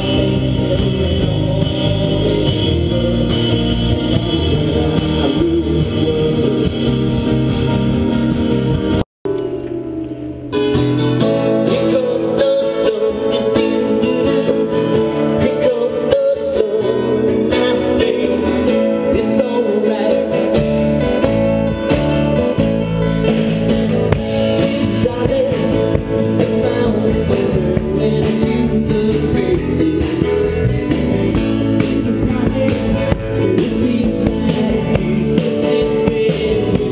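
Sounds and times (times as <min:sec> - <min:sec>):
live band playing: 0:00.0 - 0:36.9
strummed acoustic guitars: 0:00.0 - 0:36.9.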